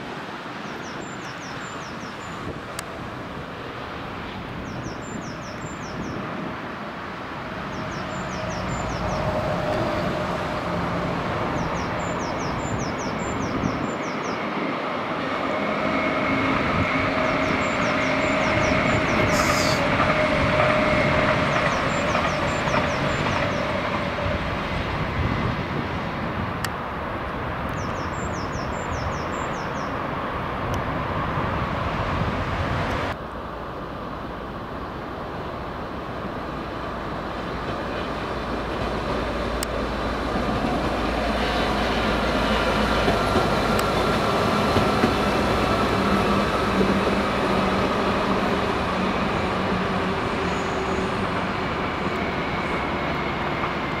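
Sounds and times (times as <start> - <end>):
train wheels rumbling on rail: 1.8 - 54.0.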